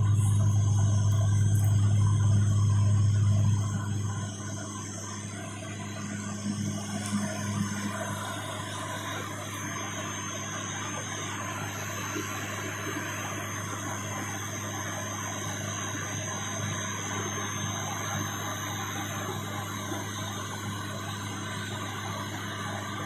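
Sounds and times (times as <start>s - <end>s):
turboprop engine drone: 0.0s - 23.0s.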